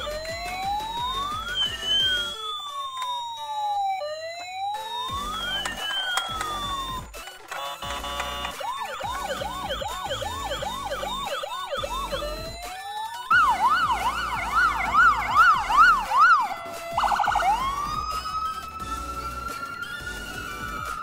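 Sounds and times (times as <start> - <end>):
electronic ambulance siren: 0.0 - 21.0.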